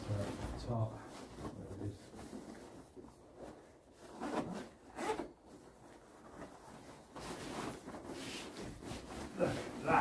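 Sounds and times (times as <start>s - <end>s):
nylon gear rustling: 0.1s - 10.0s.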